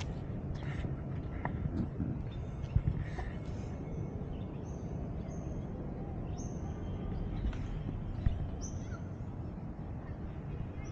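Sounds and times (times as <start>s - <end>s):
low background rumble: 0.0s - 10.9s.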